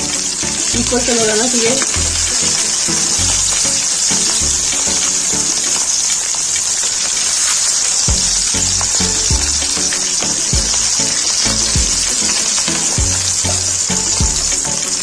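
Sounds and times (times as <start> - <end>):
food frying in hot oil: 0.0 - 15.0.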